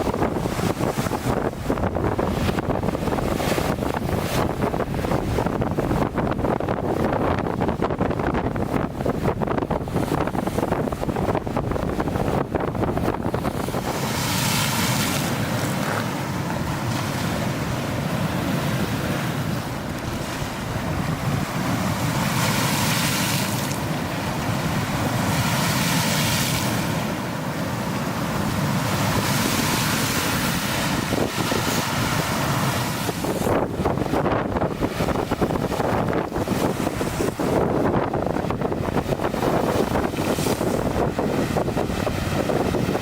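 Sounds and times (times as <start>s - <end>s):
wind buffeting microphone: 0.0s - 27.0s, 27.6s - 43.0s
waves breaking on a lake: 0.0s - 43.0s.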